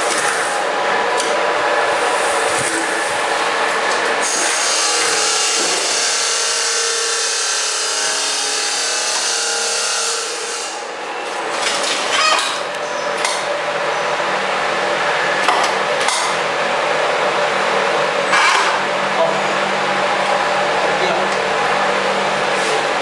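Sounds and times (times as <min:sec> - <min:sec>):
machine whine and hiss: 0:00.0 - 0:23.0.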